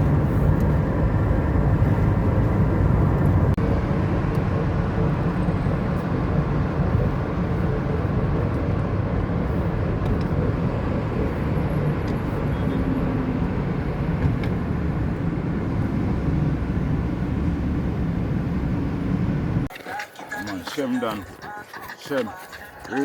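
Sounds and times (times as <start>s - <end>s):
motor vehicle rumbling: 0.0s - 19.7s.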